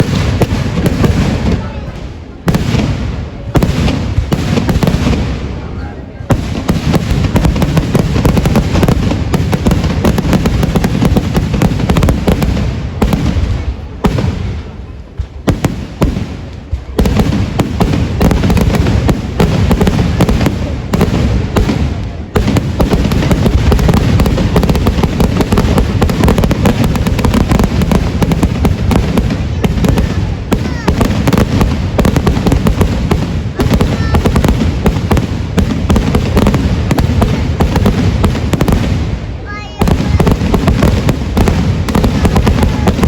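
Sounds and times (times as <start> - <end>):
firecracker bangs: 0.0 - 43.0.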